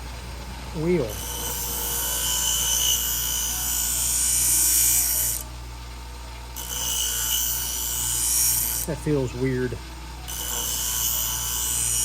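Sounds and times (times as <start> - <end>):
motor humming: 0.0 - 12.0
blade grinding on wheel: 0.8 - 5.5, 6.6 - 12.0.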